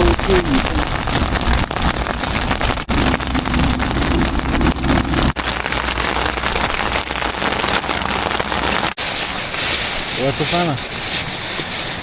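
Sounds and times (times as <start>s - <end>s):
heavy rain on a tent: 0.0s - 12.0s.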